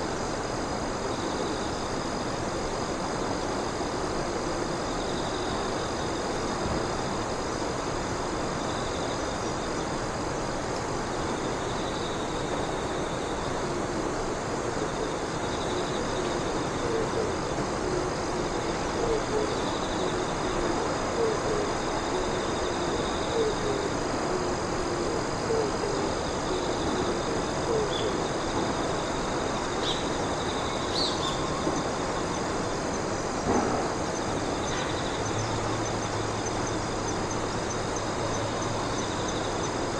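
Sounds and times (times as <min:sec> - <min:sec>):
background hiss: 0:00.0 - 0:39.9
night insects trilling: 0:00.0 - 0:39.9.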